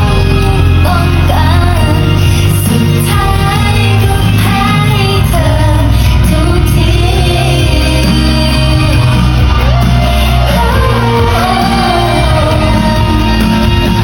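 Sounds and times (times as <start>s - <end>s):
amplified pop-rock song: 0.0s - 14.0s
heavy steady bass: 0.0s - 14.0s
person singing: 0.0s - 14.0s.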